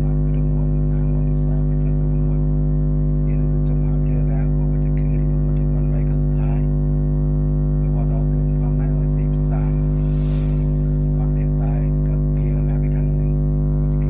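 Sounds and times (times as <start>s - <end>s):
low electrical buzzing hum: 0.0s - 14.0s.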